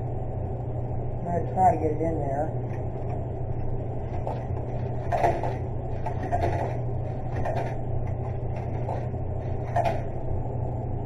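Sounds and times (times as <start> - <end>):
vending machine hum: 0.0 - 11.0.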